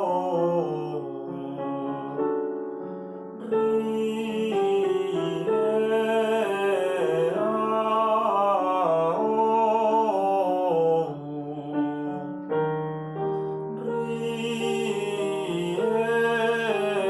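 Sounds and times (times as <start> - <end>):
man singing vocal exercise: 0.0 - 2.3, 3.4 - 12.4, 13.7 - 17.0
piano chords: 0.0 - 17.0.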